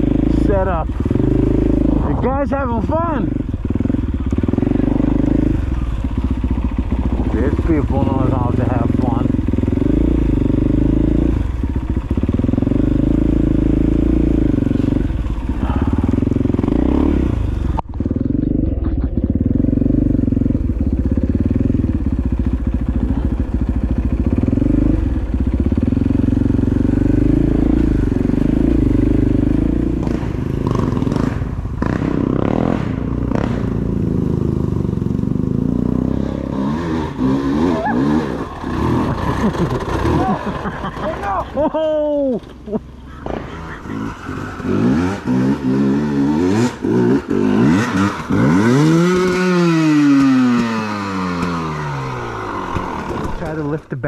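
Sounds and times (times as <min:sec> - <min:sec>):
dirt bike engine running hard: 0:00.0 - 0:54.0.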